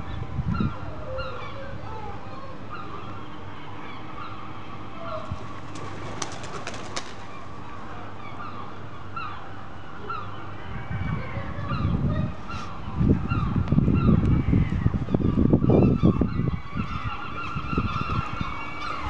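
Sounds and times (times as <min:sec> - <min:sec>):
birds calling: 0:00.0 - 0:19.0
low rumbling noise: 0:00.0 - 0:19.0.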